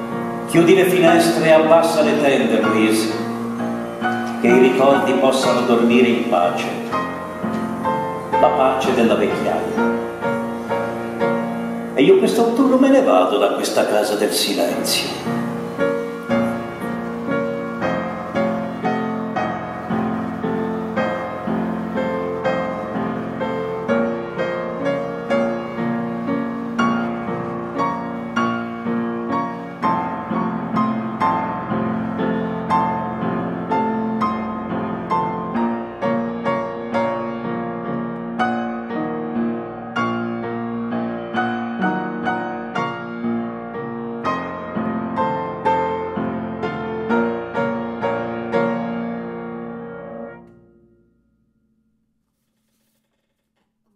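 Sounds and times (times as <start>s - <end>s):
gentle piano tune: 0.0s - 52.5s.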